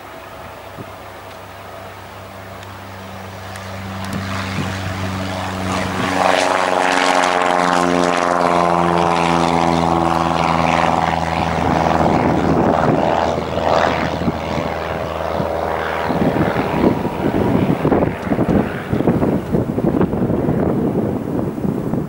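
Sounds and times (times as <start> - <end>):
light aircraft engine drone: 0.0 - 22.0.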